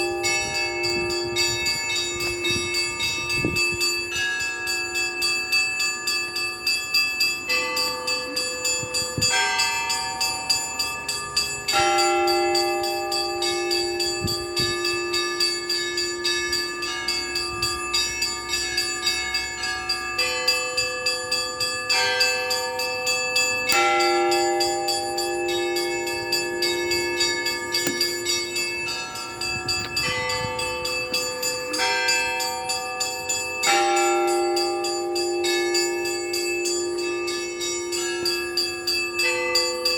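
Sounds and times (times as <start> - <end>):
church bells pealing: 0.0 - 39.9
low bell tolling: 0.0 - 39.9
small bells striking rapidly: 0.0 - 39.9.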